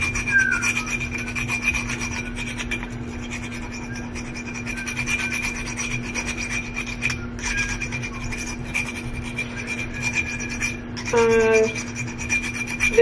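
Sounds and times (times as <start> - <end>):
nail file rasping on glass: 0.0 - 13.0.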